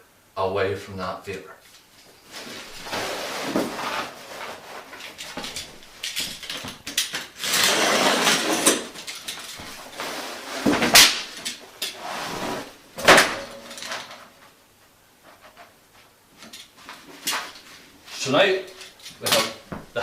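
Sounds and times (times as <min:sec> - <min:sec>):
underlay rustling: 0:01.6 - 0:20.0.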